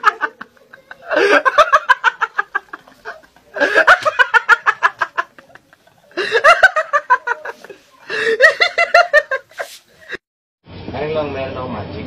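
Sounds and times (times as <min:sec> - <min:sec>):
person laughing: 0:00.0 - 0:10.2.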